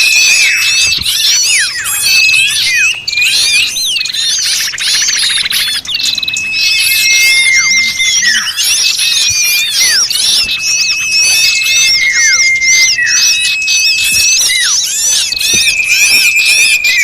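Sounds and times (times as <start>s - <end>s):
chorus of small birds calling: 0.0s - 17.0s.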